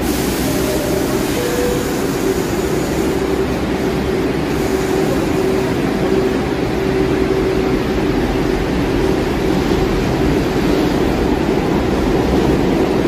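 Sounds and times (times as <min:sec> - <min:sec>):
subway train wheels rumbling on rail: 0:00.0 - 0:13.0.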